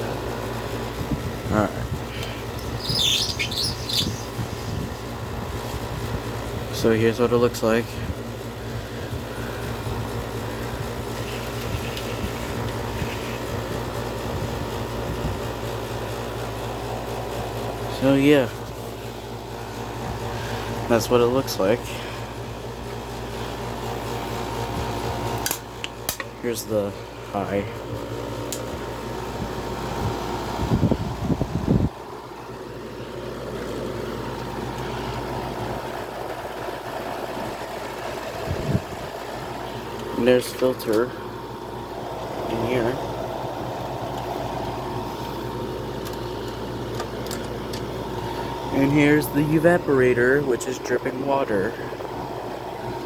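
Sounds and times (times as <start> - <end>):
air conditioner fan noise: 0.0 - 53.0.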